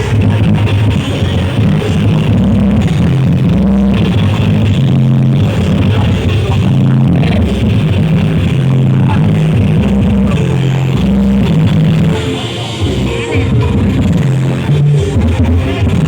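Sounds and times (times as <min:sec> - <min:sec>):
loud bass-heavy music: 0:00.0 - 0:16.0.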